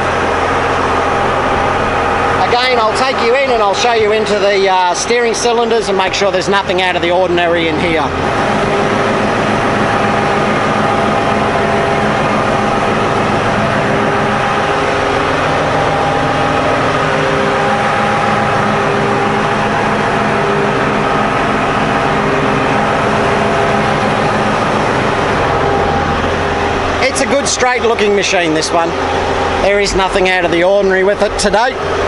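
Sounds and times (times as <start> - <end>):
wheel loader diesel engine idling: 0.0 - 32.0
whining tones: 0.0 - 32.0.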